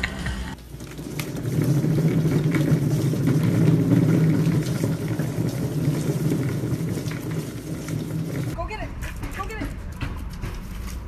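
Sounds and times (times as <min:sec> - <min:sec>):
cat exercise wheel rumbling: 0:00.0 - 0:11.0.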